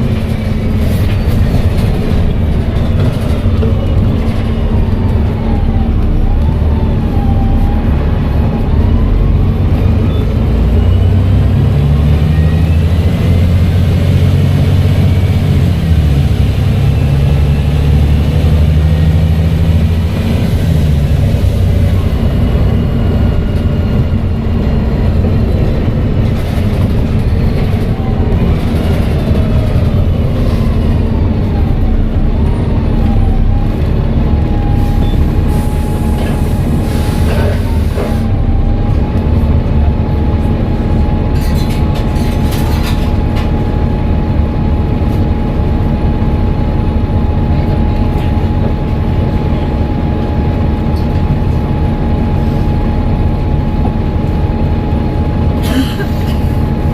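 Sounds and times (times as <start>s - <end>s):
diesel engine rumble: 0.0s - 56.9s.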